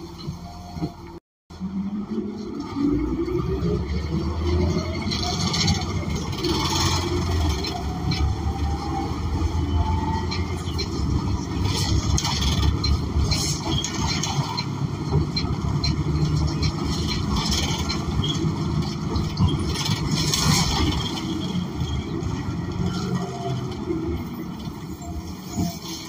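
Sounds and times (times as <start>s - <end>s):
bus engine droning: 0.0s - 26.0s.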